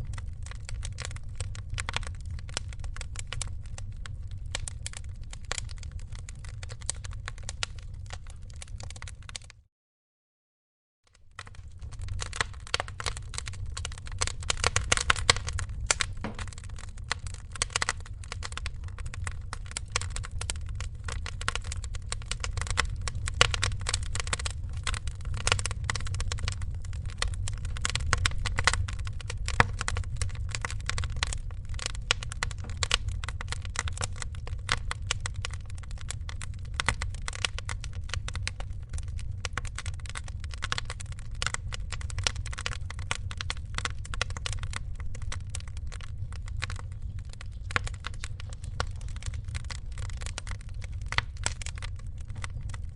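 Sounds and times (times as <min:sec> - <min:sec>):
wood fire crackling: 0:00.0 - 0:09.6, 0:11.1 - 0:52.9.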